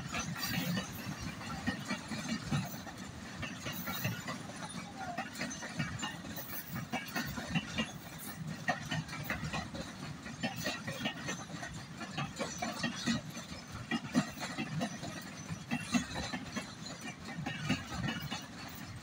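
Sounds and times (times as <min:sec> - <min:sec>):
freight train rumble: 0:00.0 - 0:19.0
train wheels clicking over rail joints: 0:00.0 - 0:19.0.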